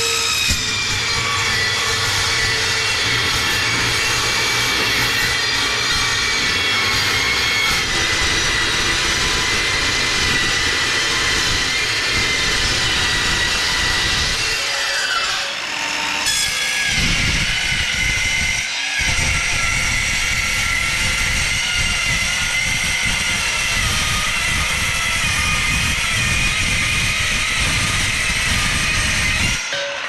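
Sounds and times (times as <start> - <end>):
power tool cutting metal: 0.0 - 30.0.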